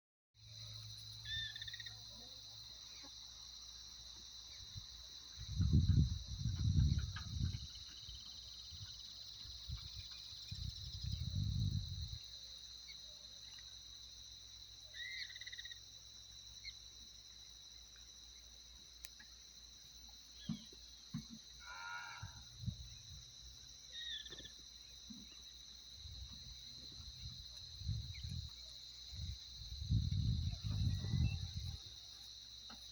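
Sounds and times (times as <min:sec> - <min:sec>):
crickets chirping: 0:00.4 - 0:32.9.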